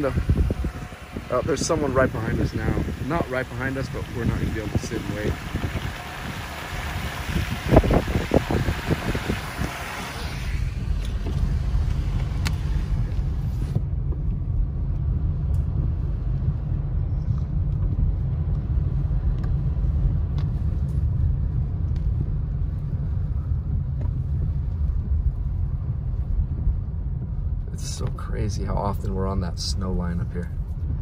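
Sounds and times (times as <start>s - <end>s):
car driving on slushy road: 0.0s - 31.0s.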